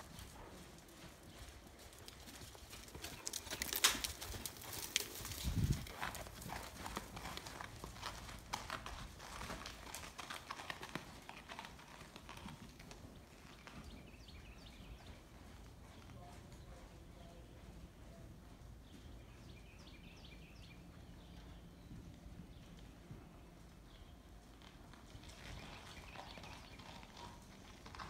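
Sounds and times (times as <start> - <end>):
horse trotting on sand: 0.0 - 28.0.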